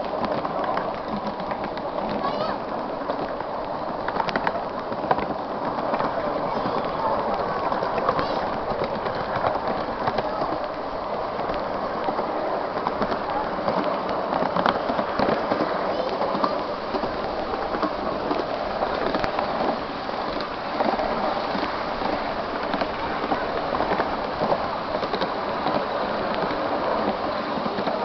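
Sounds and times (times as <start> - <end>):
miniature train wheels clattering: 0.0 - 28.0.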